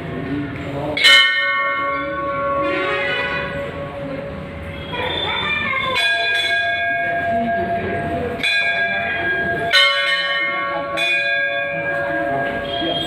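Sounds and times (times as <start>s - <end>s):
brass temple bell ringing: 1.0s - 13.0s.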